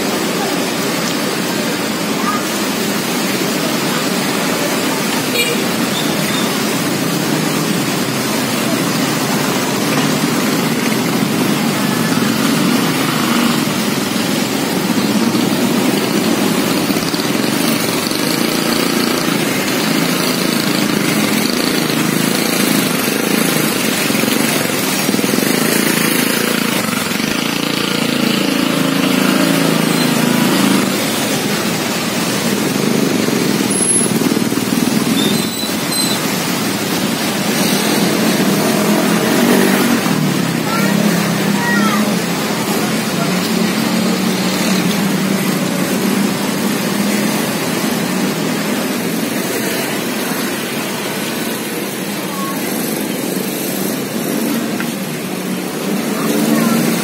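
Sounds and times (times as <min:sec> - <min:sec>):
road traffic noise: 0:00.0 - 0:57.0
vehicles passing: 0:00.0 - 0:57.0.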